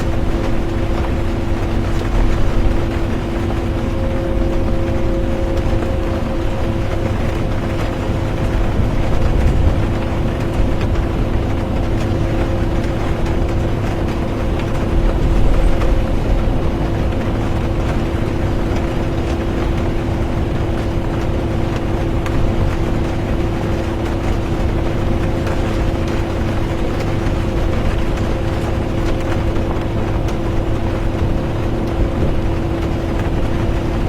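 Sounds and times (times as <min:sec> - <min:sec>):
bus road and engine rumble: 0:00.0 - 0:34.0
constant hum: 0:00.0 - 0:34.0
rain ticking on bus: 0:00.0 - 0:34.0.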